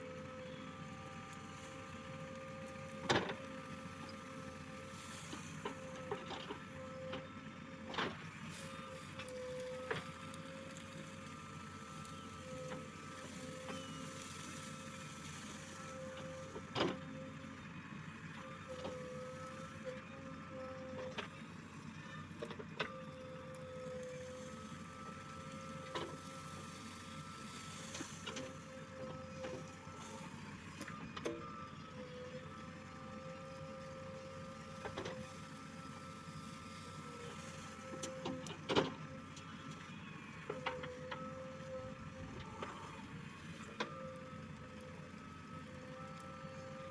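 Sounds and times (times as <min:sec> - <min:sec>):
backhoe loader engine running: 0:00.0 - 0:46.9.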